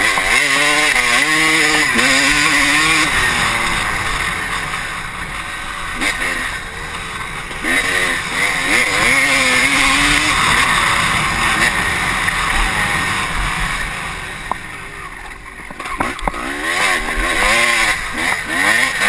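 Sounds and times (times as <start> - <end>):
motocross engine revving: 0.0 - 19.0.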